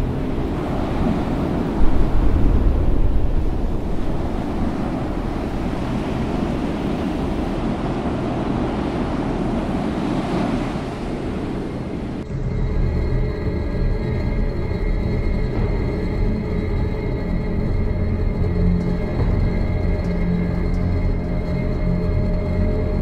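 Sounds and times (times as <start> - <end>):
eerie music with held tones: 0.0 - 23.0
water: 0.0 - 23.0
wind noise on microphone: 0.0 - 23.0.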